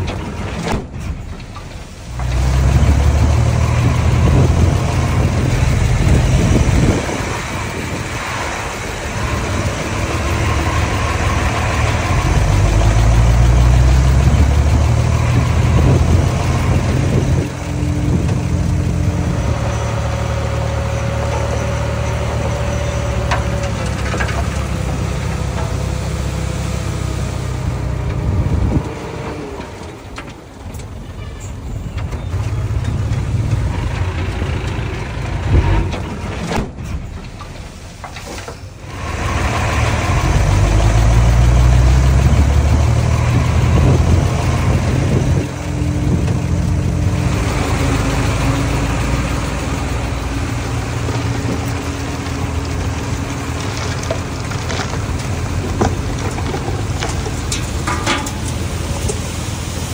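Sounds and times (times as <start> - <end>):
bulldozer diesel engine working: 0.0 - 59.9.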